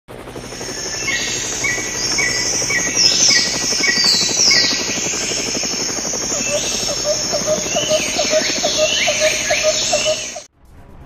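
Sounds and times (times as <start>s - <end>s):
bird chirping: 0.5s - 10.5s
high downward whistles: 0.5s - 10.5s.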